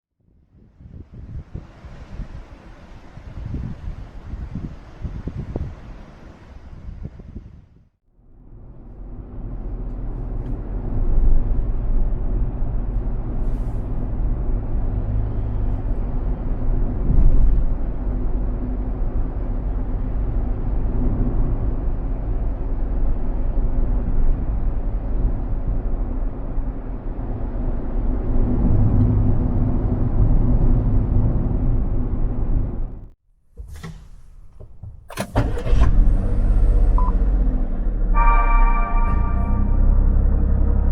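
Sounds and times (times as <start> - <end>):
van engine and road rumble: 0.3 - 40.9.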